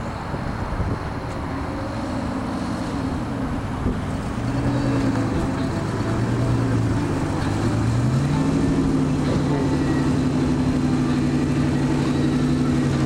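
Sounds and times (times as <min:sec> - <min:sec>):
car engine running: 0:00.0 - 0:13.0
wind and road noise: 0:00.0 - 0:13.0.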